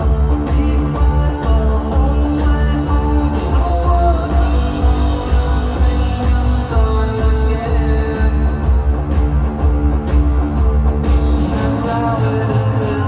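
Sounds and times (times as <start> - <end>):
guitar: 0.0 - 13.0
heavy pulsing bass: 0.0 - 13.0
live rock band: 0.0 - 13.0.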